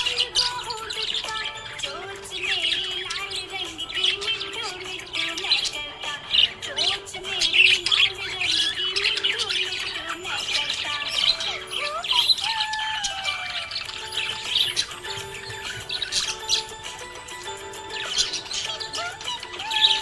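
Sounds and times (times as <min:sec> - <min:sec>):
budgerigar chirping and warbling: 0:00.0 - 0:20.0.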